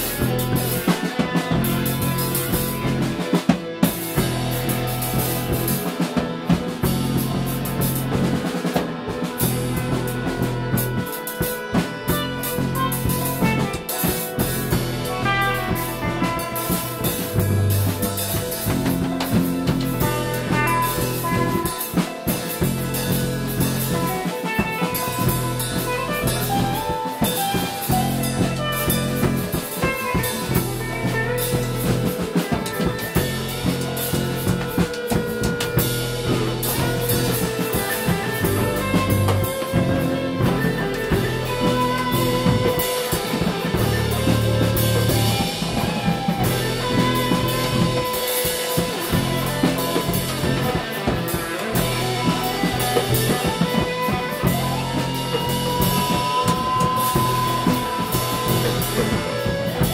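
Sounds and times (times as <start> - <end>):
drum kit playing: 0.0 - 59.9
electric bass notes: 0.0 - 59.9
guitar: 0.0 - 59.9
saxophone: 0.0 - 59.9.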